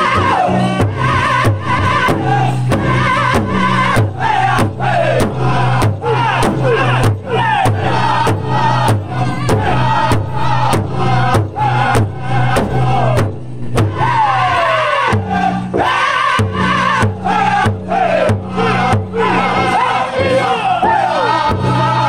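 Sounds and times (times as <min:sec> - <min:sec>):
men singing high phrases: 0:00.0 - 0:13.2, 0:13.9 - 0:22.0
large drum beating in unison: 0:00.0 - 0:22.0.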